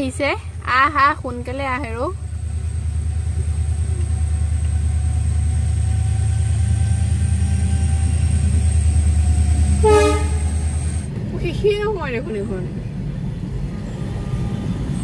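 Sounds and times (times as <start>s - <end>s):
locomotive engine drone: 0.0s - 15.0s.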